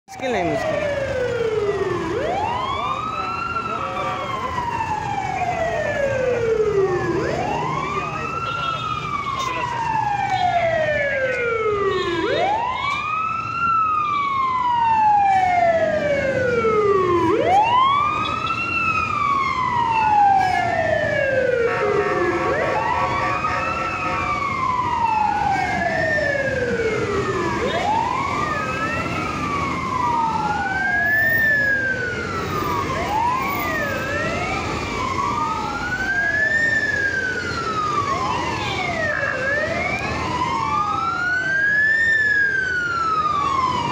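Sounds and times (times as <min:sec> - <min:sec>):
ambulance sirens wailing: 0:00.1 - 0:43.9
rumble of passing vehicles: 0:00.1 - 0:43.9.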